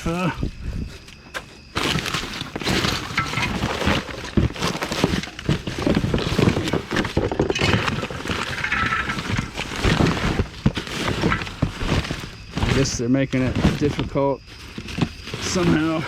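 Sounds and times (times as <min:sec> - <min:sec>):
trash rustling: 0:01.3 - 0:16.0
items knocking and clattering: 0:01.8 - 0:16.0.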